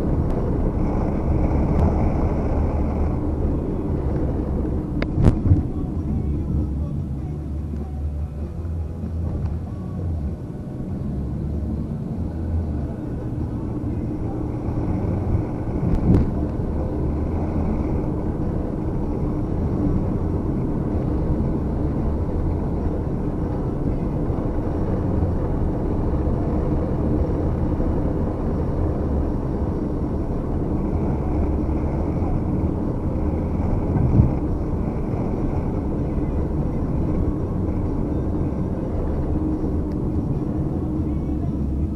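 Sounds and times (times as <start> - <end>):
muffled low rumble: 0.0 - 41.9.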